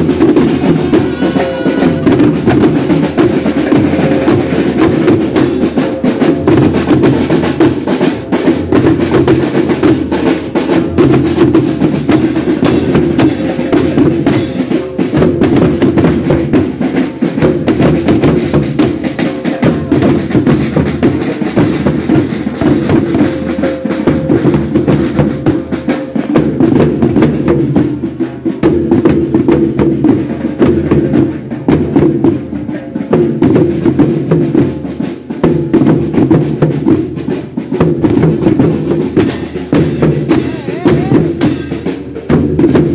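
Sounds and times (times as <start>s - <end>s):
snare drums rolling: 0.0s - 42.9s.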